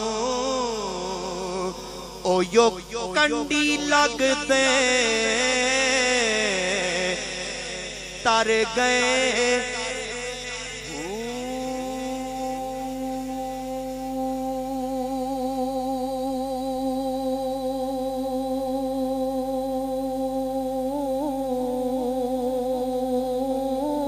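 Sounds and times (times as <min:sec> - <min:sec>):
man singing long note with echo: 0:00.0 - 0:24.0.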